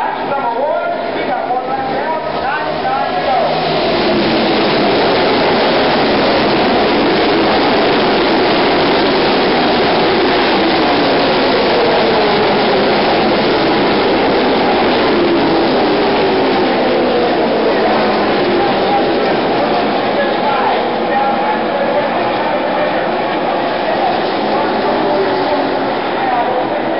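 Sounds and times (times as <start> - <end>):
race car engines roaring: 0.0 - 26.9.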